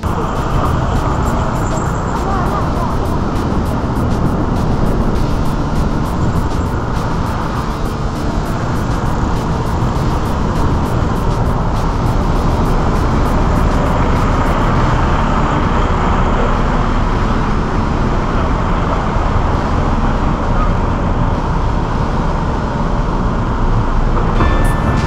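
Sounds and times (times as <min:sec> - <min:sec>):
road traffic rumble and hiss: 0:00.0 - 0:25.0.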